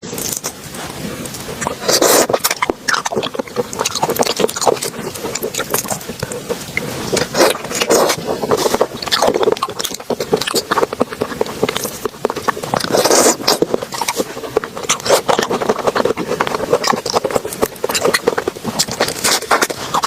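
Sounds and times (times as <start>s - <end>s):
wet chewing and mouth smacking: 0.0s - 20.0s.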